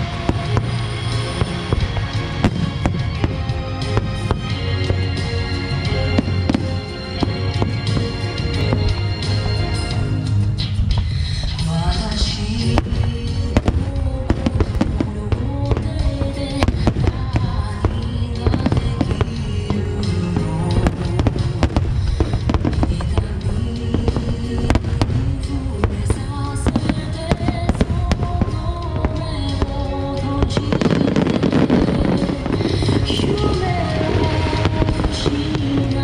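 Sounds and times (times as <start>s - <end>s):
fireworks booming and crackling: 0.0s - 36.0s
music playing: 0.0s - 36.0s.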